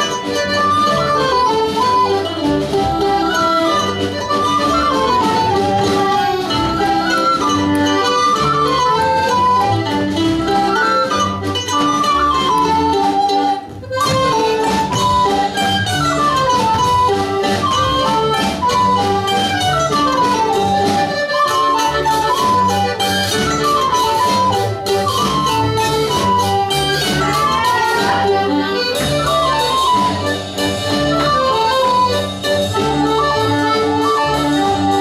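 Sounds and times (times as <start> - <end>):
plucked strings: 0.0 - 34.2
accordion: 0.0 - 35.0
double bass: 0.0 - 35.0.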